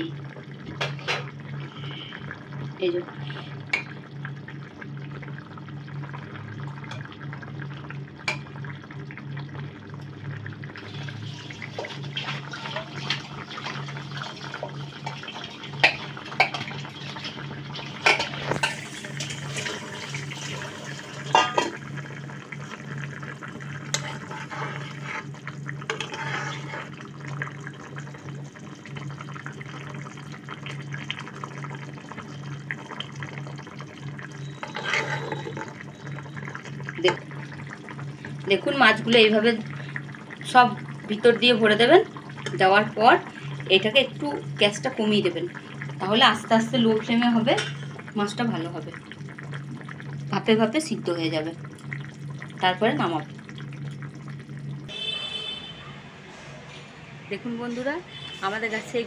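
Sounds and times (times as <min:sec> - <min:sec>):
curry boiling and spluttering: 0:00.0 - 0:59.0.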